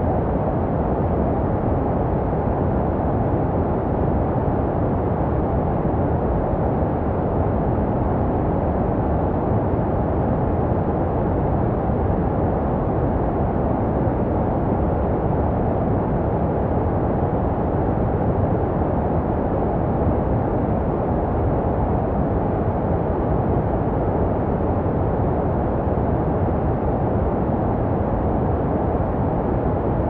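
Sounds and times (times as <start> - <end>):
muffled white noise hiss: 0.0 - 30.0.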